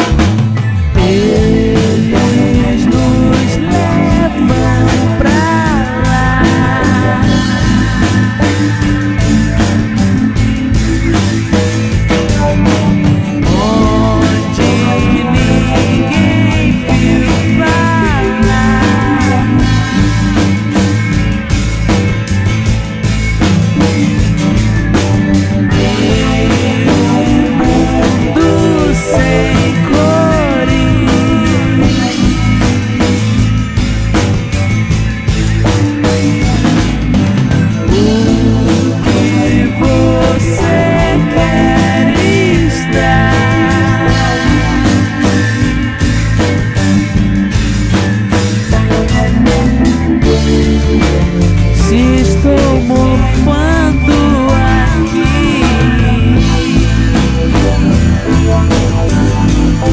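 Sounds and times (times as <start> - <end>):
pitch-bending lead guitar line: 0.0 - 59.9
psychedelic rock band playing: 0.0 - 59.9.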